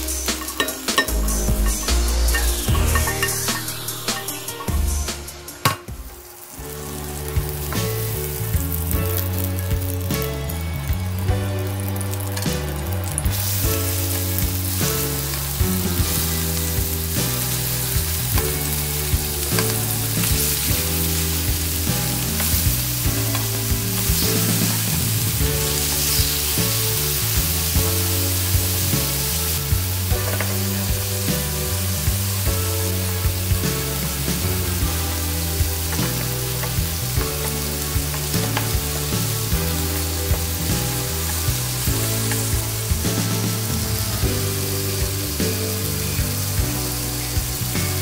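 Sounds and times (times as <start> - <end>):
chicken sizzling in a frying pan: 0.0 - 48.0.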